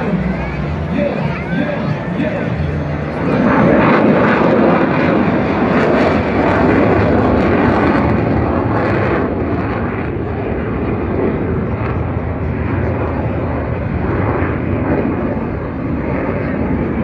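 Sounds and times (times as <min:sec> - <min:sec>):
jet flying over: 0:00.0 - 0:17.0.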